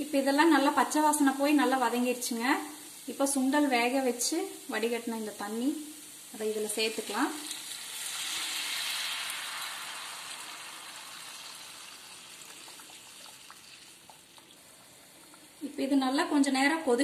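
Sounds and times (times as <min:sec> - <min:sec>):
liquid sizzling in hot oil: 0:00.0 - 0:17.0.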